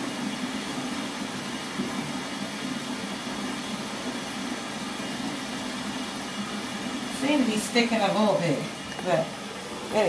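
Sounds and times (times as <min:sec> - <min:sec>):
tap water running into bathtub: 0:00.0 - 0:10.0.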